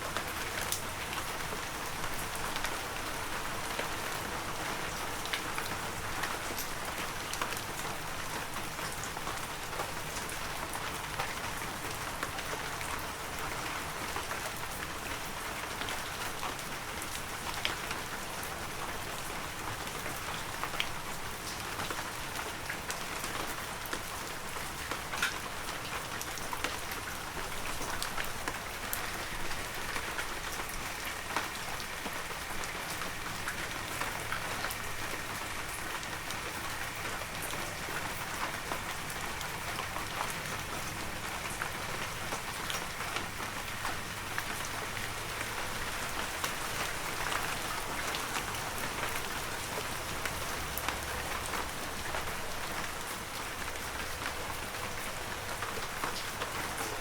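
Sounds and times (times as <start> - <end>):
heavy rain: 0.0 - 57.0
raindrops ticking on surfaces: 0.0 - 57.0.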